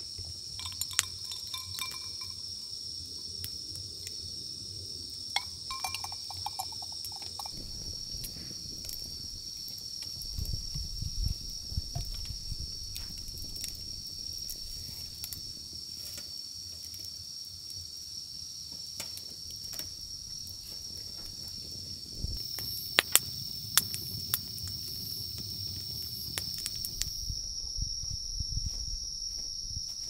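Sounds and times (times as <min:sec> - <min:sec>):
night insects chirring: 0:00.0 - 0:30.0
wood fire crackling: 0:00.2 - 0:29.4.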